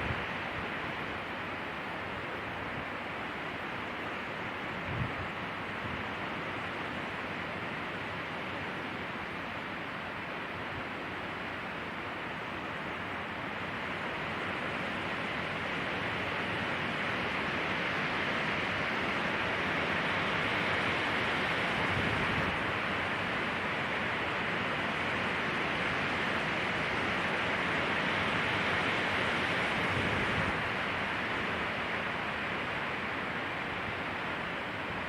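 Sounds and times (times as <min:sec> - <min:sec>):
wind through pine trees: 0:00.0 - 0:35.0.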